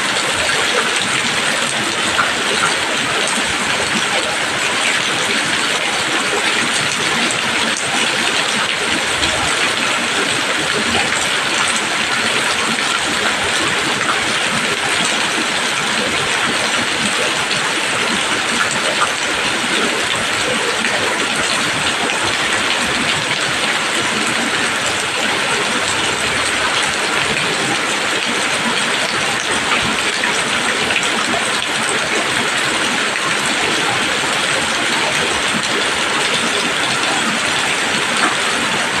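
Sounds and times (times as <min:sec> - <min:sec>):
rain falling on leaves: 0:00.0 - 0:39.0.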